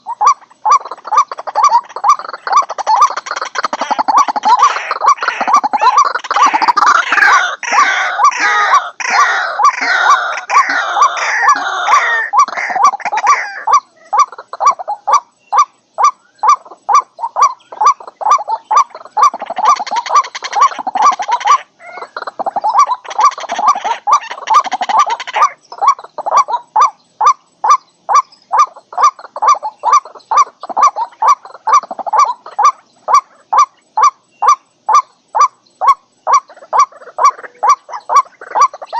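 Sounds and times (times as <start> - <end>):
waterhen jumbled calls: 0.0 - 38.9.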